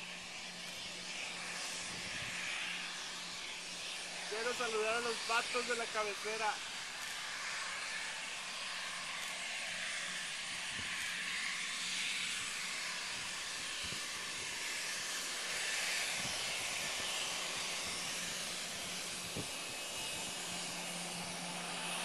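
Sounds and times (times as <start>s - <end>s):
jet engines hissing: 0.0s - 22.0s.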